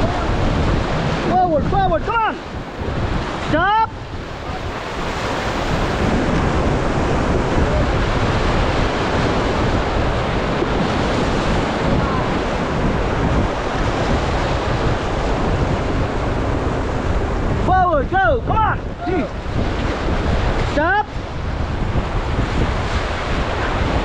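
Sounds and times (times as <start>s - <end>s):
whitewater rapids rushing: 0.0s - 21.5s
wind noise on microphone: 0.0s - 24.0s.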